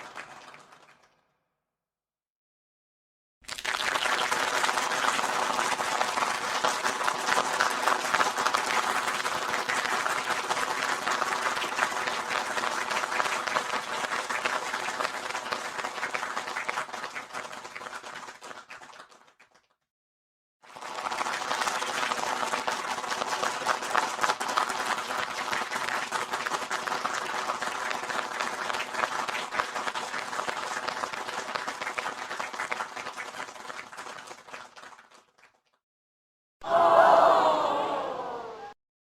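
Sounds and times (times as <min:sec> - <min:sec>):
crowd applause: 0:00.0 - 0:01.1, 0:03.5 - 0:18.5, 0:20.7 - 0:35.0, 0:36.6 - 0:38.8.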